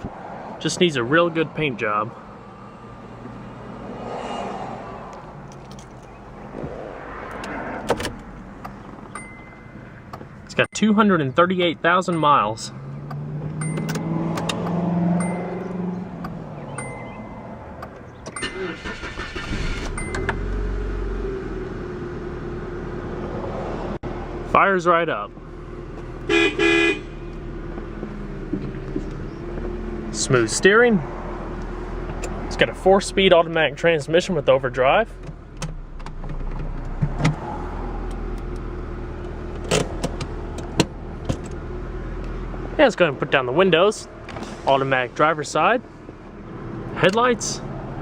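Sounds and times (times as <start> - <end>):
car engine cranking and idling: 4.9 - 48.0.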